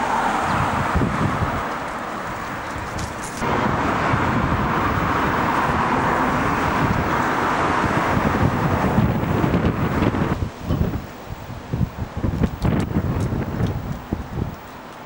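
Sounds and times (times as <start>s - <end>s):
gusty wind on microphone: 0.0s - 14.6s.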